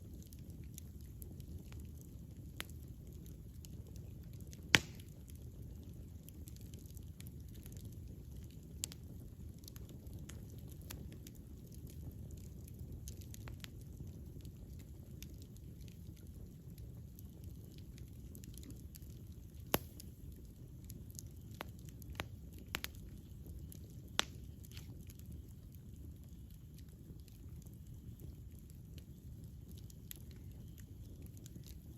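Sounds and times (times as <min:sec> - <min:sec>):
sharp pops and snaps of fire: 0:00.0 - 0:31.9
wood fire crackling: 0:00.0 - 0:31.9.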